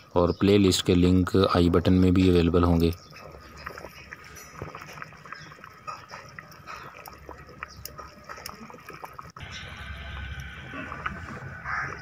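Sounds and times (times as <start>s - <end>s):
pot of water bubbling: 0.7s - 12.0s.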